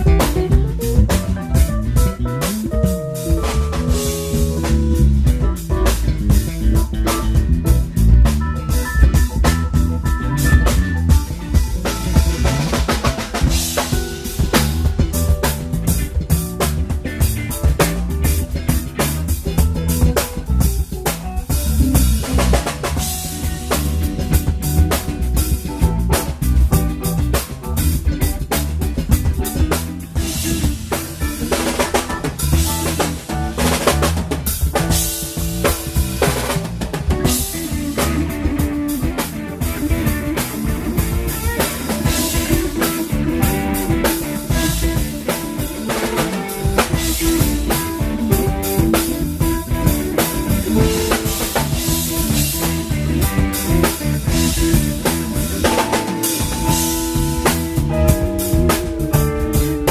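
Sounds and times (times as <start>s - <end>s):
drum kit playing loudly: 0.0s - 59.9s
live band playing instrumental: 0.0s - 59.9s.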